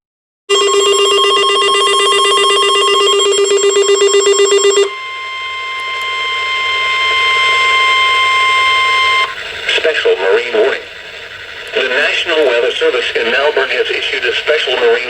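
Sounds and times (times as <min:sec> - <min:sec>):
warbling electronic data tone: 0:00.5 - 0:14.9
steady warning alarm tone: 0:00.5 - 0:15.0.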